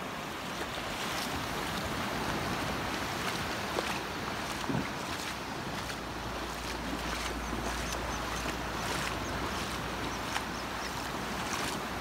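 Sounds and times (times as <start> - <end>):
wind on microphone: 0.8 - 12.0.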